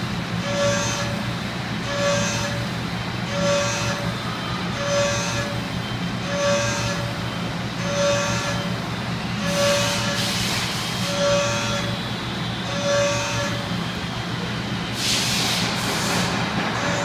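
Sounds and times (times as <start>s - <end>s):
machine tool humming: 0.0s - 14.0s.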